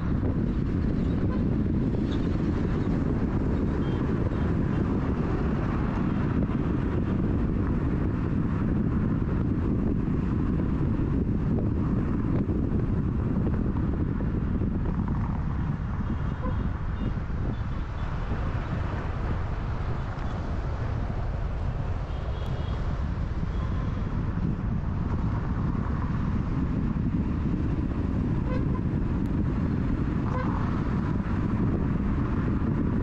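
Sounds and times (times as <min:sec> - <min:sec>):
car road and tyre noise: 0:00.0 - 0:33.0.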